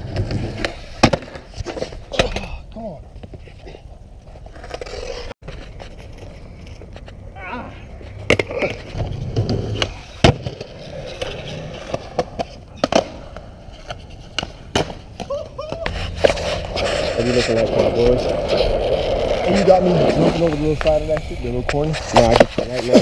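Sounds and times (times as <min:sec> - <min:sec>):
skateboard wheels rolling on concrete: 0:00.0 - 0:23.0.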